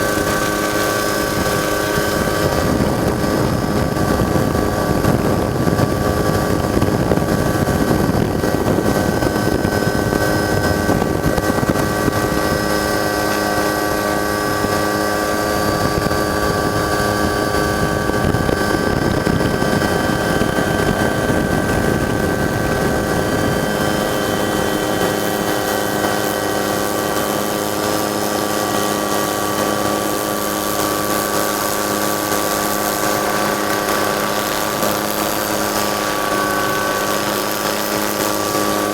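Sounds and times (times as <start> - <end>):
helicopter high whine: 0.0 - 38.9
helicopter rotor and engine rumble: 0.0 - 38.9.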